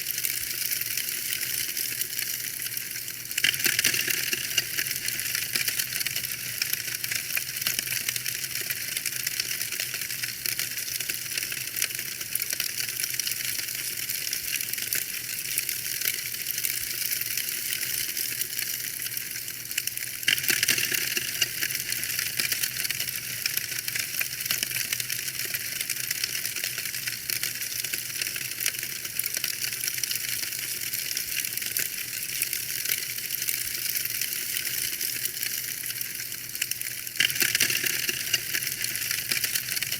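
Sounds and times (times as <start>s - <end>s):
soft hiss of fire: 0.0s - 39.9s
wood fire crackling: 0.0s - 39.9s.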